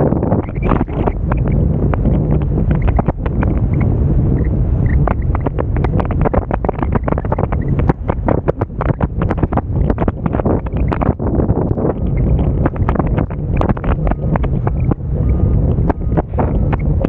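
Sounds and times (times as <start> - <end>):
crackles: 0.0 - 17.0
wind buffeting microphone: 0.0 - 17.0.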